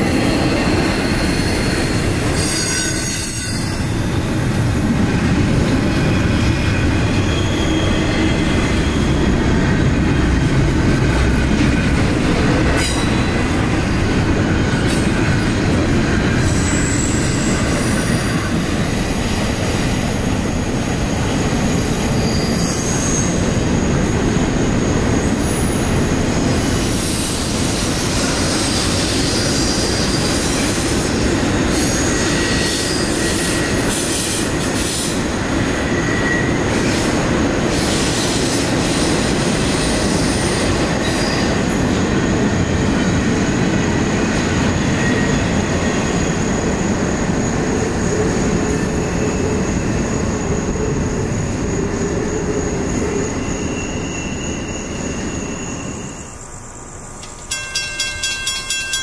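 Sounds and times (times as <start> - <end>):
freight train cars rumbling: 0.0 - 59.0
steel wheels squealing on rail: 0.0 - 59.0.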